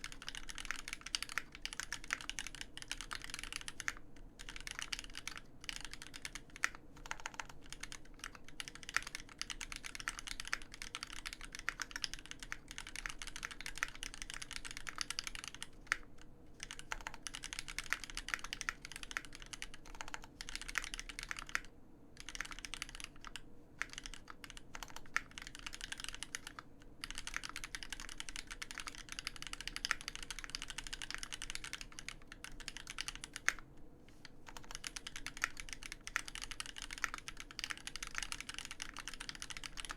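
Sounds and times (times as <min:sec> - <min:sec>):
mechanical keyboard typing: 0:00.0 - 0:33.6, 0:34.4 - 0:39.9.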